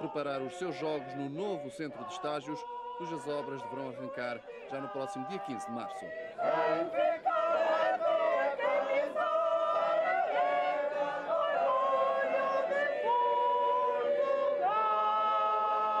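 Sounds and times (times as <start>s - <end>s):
mixed choir singing: 0.0s - 16.0s.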